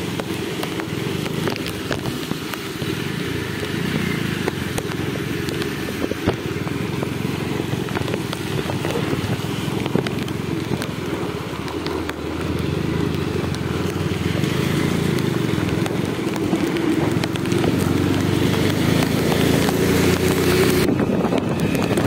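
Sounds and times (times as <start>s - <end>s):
motorbike engine running: 0.0s - 22.0s
wind rush on microphone: 0.0s - 22.0s.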